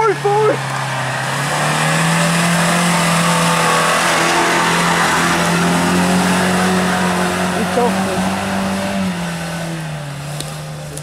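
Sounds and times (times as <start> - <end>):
engine at full throttle: 0.0 - 11.0.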